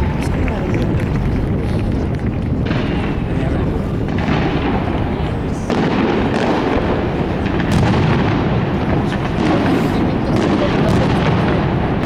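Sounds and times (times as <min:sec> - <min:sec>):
fireworks booming: 0:00.0 - 0:12.0
sharp fireworks cracks: 0:00.0 - 0:12.0.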